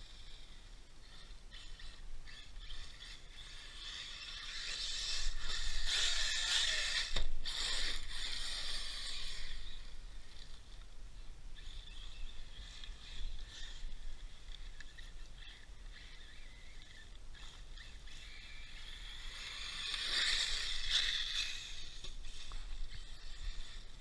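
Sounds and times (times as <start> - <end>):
electric motor whining: 0.0 - 10.8, 11.6 - 24.0.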